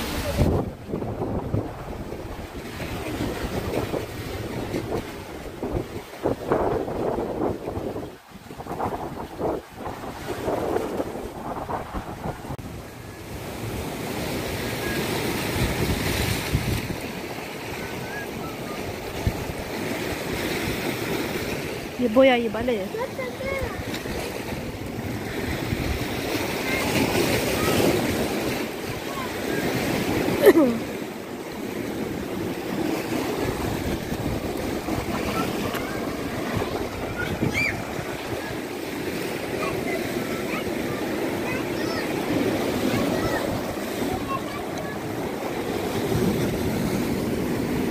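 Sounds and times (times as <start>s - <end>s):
sea waves breaking over rocks: 0.0s - 47.9s
wind buffeting microphone: 0.0s - 47.9s.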